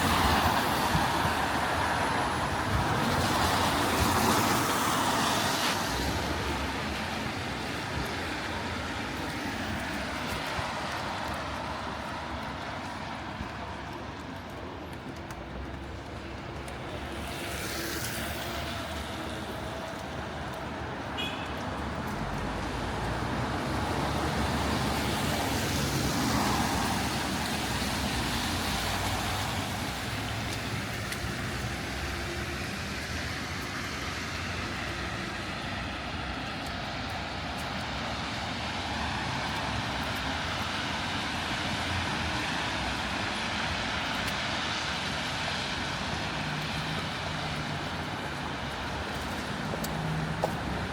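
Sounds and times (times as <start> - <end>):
tyres hissing on wet road: 0.0 - 14.8, 15.4 - 50.9.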